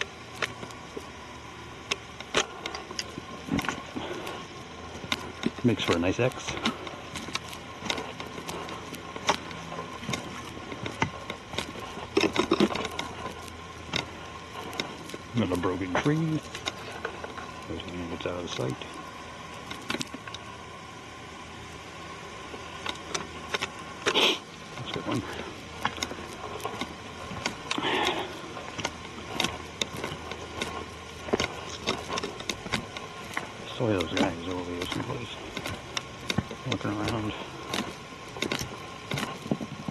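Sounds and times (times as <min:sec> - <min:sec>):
footsteps on leaves and twigs: 0:00.0 - 0:39.9.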